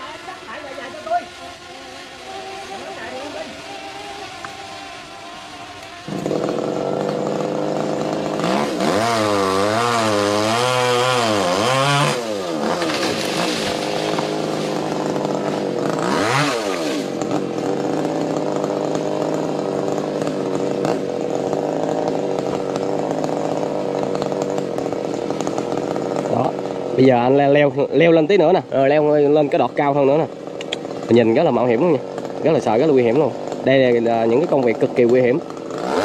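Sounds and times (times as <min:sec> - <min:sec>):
chainsaw engine running: 0:00.0 - 0:36.0.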